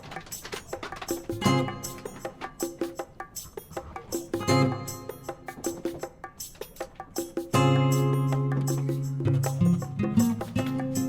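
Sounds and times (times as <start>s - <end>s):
plucked and percussive music: 0.0s - 11.0s.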